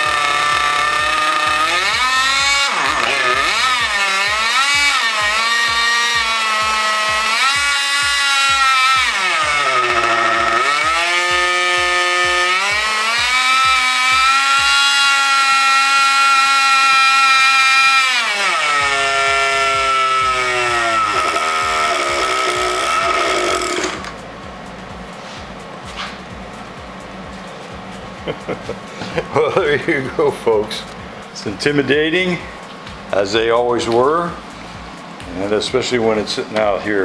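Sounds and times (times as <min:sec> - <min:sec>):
model engine high-pitched whine: 0:00.0 - 0:37.0.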